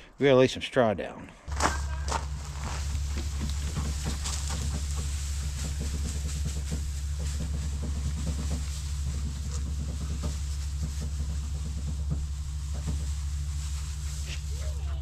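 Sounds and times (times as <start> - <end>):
steady low rumble: 1.4 - 15.0
straw rustling and crunching: 1.5 - 15.0.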